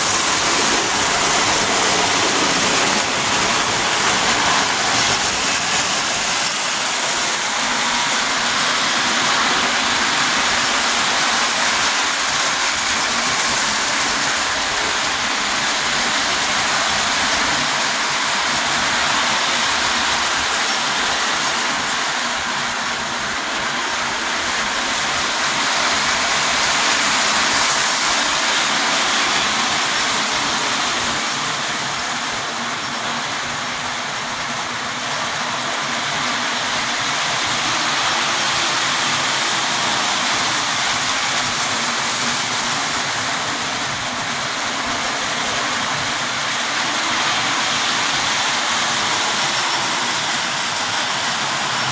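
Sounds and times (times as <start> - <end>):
metal wheels clattering on rails: 0.0 - 51.9
model train motors whirring: 0.0 - 51.9.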